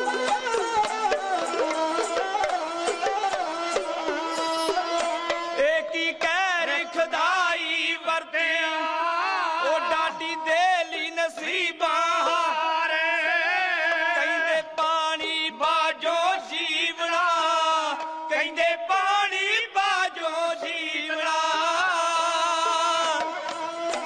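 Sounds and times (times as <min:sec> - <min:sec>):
men singing ornamented melody: 0:00.0 - 0:24.0.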